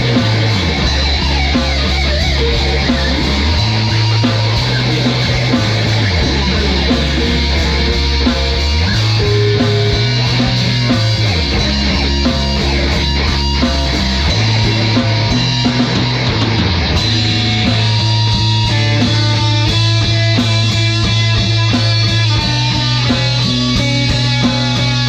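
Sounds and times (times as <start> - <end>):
heavy rock music: 0.0 - 25.0.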